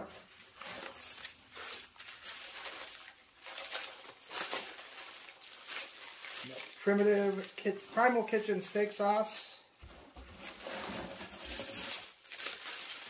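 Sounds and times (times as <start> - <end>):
packing paper rustling and crinkling: 0.0 - 13.0.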